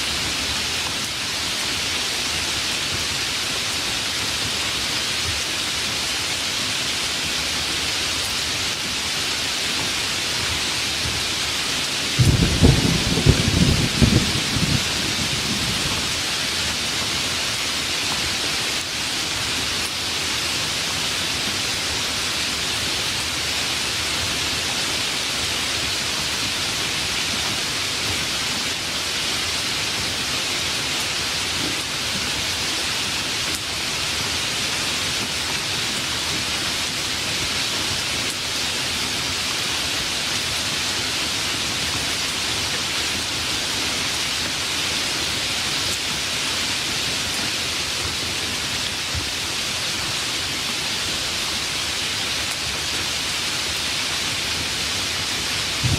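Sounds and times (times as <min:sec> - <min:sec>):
heavy rain hissing: 0:00.0 - 0:55.9.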